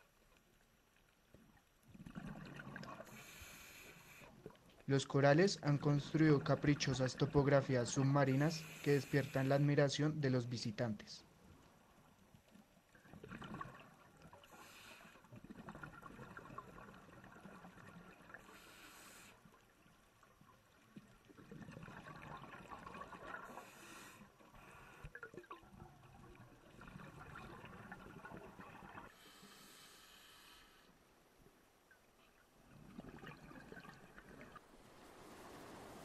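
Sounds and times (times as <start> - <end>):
underwater bubbling and rushing: 1.3 - 9.6, 11.5 - 29.4, 32.6 - 36.0.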